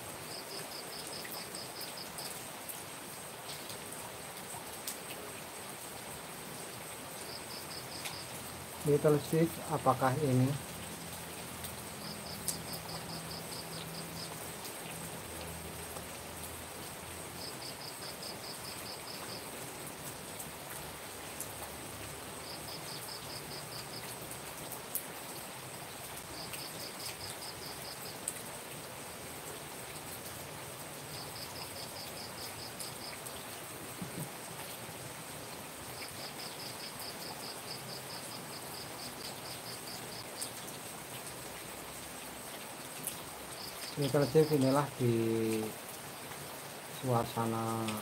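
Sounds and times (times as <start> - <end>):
rain falling on roofs: 0.0 - 48.0.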